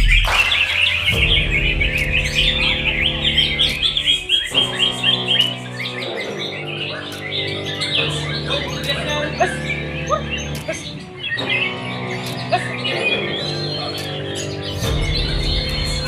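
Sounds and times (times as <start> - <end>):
background music with held notes: 0.0 - 16.0
songbirds chirping and trilling: 0.0 - 16.0.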